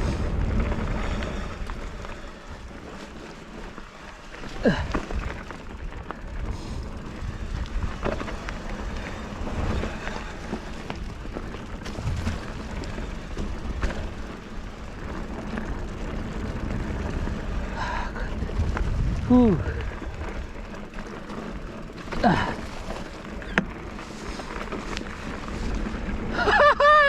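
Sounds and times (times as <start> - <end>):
bike clicks and rattles: 0.0 - 27.0
bike tyres rumbling on dirt trail: 0.0 - 27.0.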